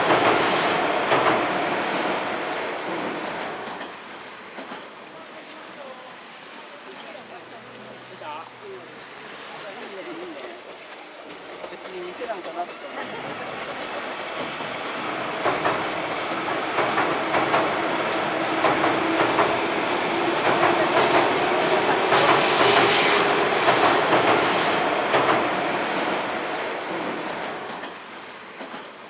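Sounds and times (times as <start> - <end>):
electric train passing: 0.0 - 29.0
train wheels clacking: 0.0 - 29.0.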